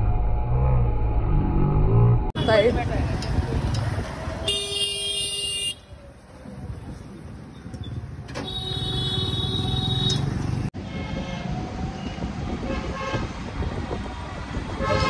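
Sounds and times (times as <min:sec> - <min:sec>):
motor vehicles rumbling: 0:00.0 - 0:15.0.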